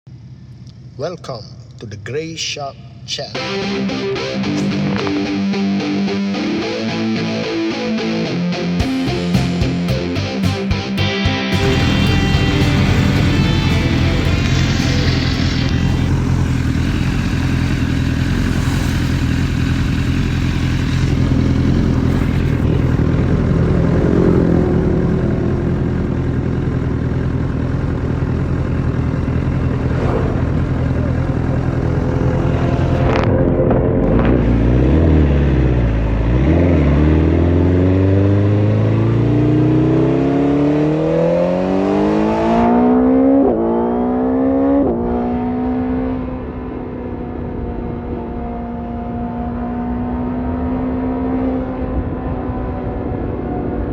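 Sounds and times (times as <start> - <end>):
motorcycle engine revving: 4.1 - 53.9.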